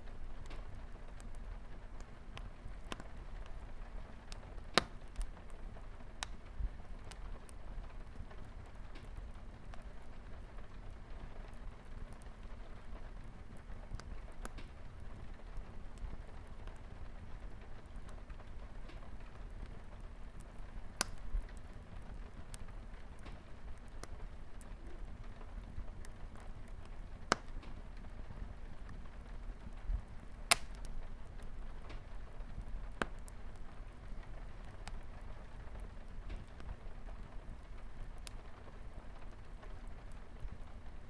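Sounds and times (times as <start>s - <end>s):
fire popping: 0.0s - 41.0s
light rain on a window: 0.0s - 41.0s
wood fire crackling: 0.0s - 41.0s.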